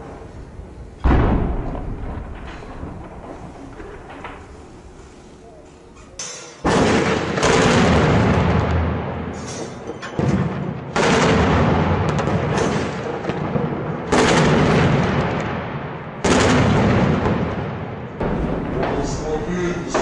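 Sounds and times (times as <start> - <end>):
heavy weapon blasts with echo: 1.0 - 5.1, 6.6 - 20.0.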